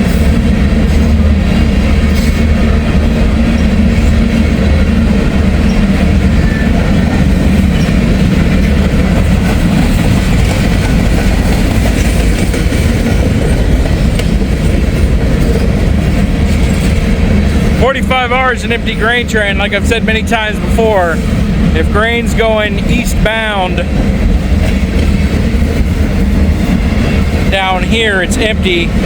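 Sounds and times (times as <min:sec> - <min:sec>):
freight train wheels clacking: 0:00.0 - 0:29.0.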